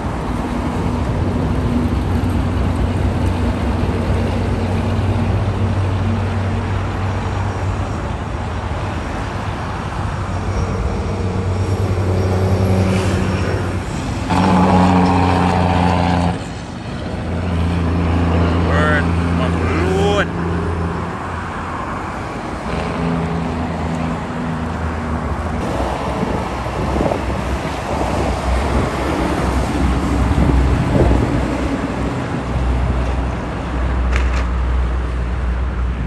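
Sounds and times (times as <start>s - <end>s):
diesel trucks and cars passing: 0.0s - 36.0s
loud truck engine: 0.0s - 36.0s.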